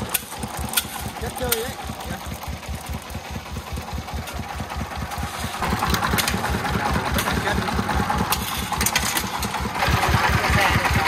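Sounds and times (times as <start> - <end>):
diesel engine idling chugging: 0.0 - 11.0.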